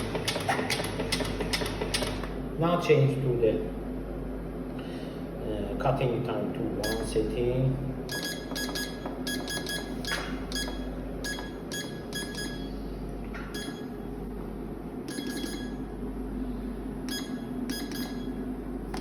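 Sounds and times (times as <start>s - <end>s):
steady motor hum: 0.0s - 19.0s.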